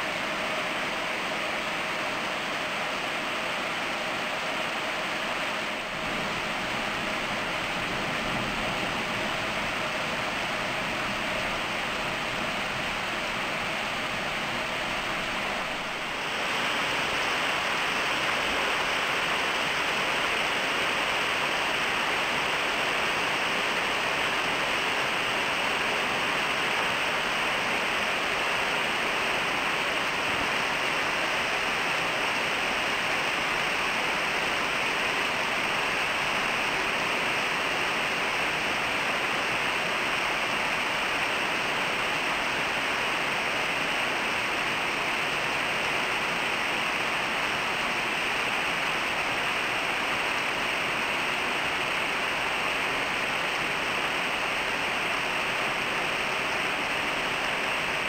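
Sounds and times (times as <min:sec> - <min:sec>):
heavy rain on leaves and roofs: 0:00.0 - 0:58.0.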